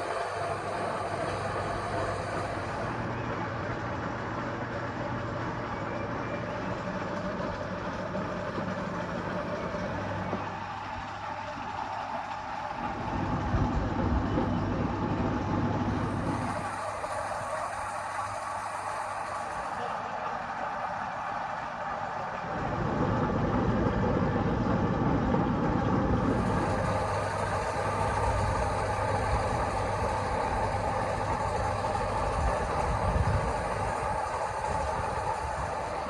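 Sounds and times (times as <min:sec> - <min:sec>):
machine humming and hissing: 0:00.0 - 0:36.0.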